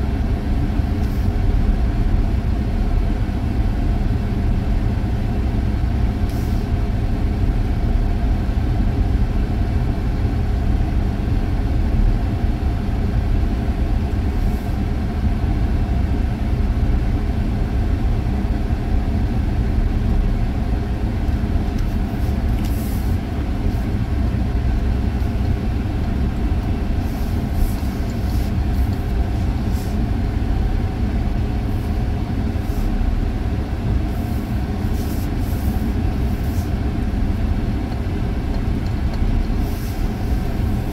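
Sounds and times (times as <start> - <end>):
engine and road noise in cabin: 0.0 - 40.9.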